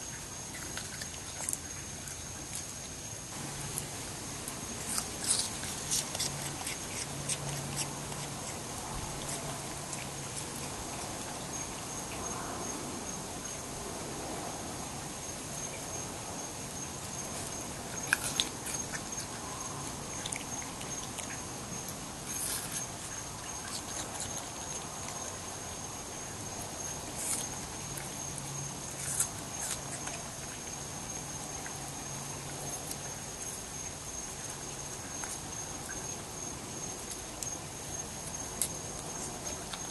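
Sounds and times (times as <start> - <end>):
raccoon chewing apple: 0.0 - 13.6, 15.3 - 39.9.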